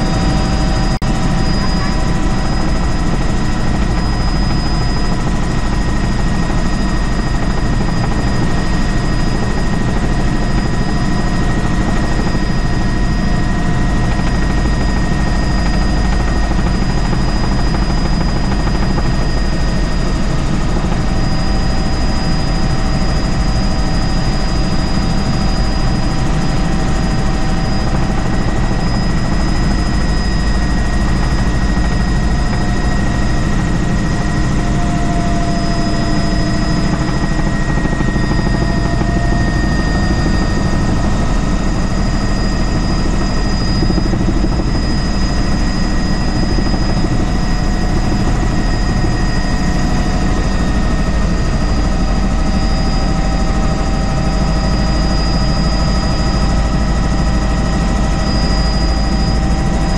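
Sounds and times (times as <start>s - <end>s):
helicopter rotor and engine rumble: 0.0s - 59.9s
high-pitched whines: 0.0s - 59.9s.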